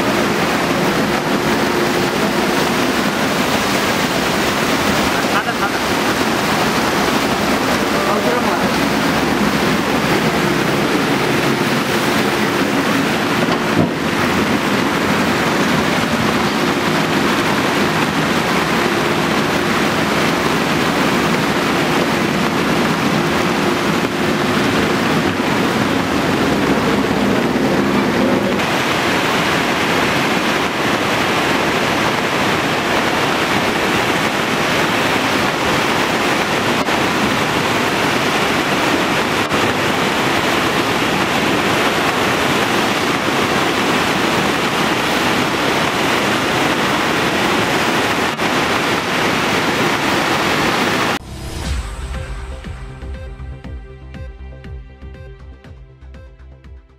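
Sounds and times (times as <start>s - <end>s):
floodwater rushing: 0.0s - 53.3s
wind noise on microphone: 0.0s - 54.3s.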